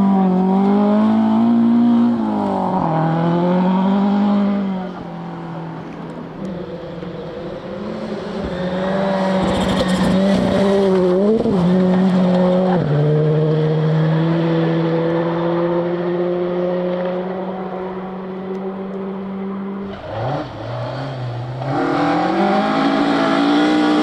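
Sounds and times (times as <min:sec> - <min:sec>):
rally car engine passing: 0:00.0 - 0:24.0.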